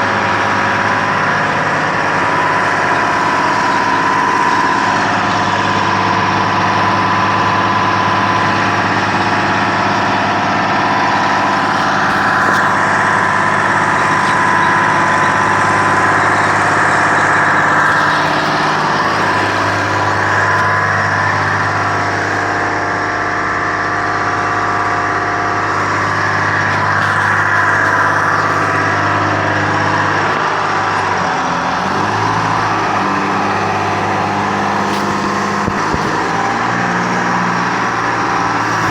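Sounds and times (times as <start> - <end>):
drill rig engine running: 0.0 - 38.9
high whine: 0.0 - 38.9.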